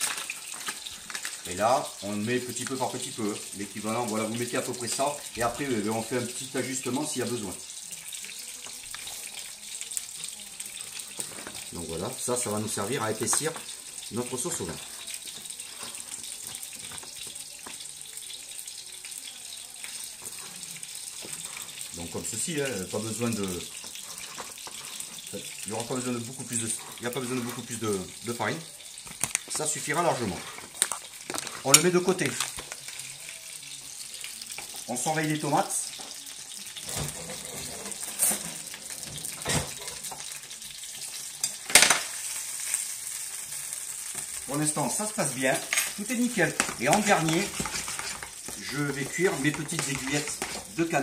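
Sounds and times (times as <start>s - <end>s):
food sizzling in a pan: 0.0s - 51.0s.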